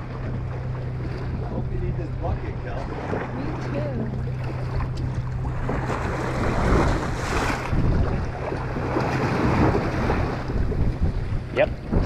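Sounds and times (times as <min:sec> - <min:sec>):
steady low hum: 0:00.0 - 0:12.0
water washing against hull: 0:00.0 - 0:12.0
wind buffeting microphone: 0:00.0 - 0:12.0.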